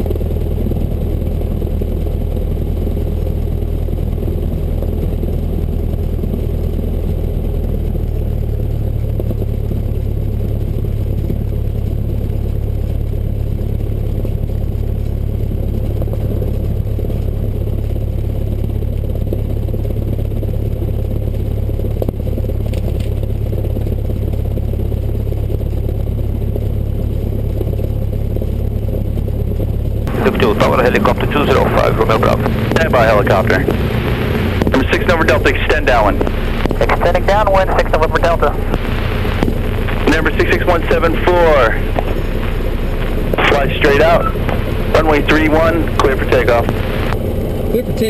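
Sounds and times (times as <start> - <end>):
propeller plane engine from cabin: 0.0 - 48.0.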